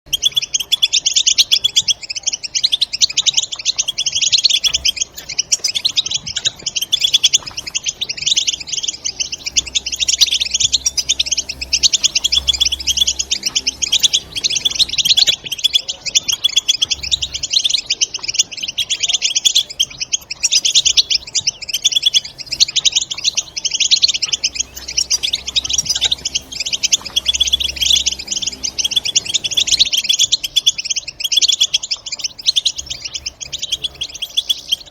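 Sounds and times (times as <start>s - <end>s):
goldfinches twittering: 0.1s - 34.9s.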